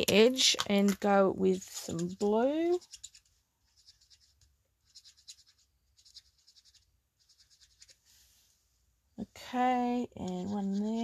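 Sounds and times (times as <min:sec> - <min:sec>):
marker tip scratching on plastic: 0:00.0 - 0:08.0, 0:10.0 - 0:11.0.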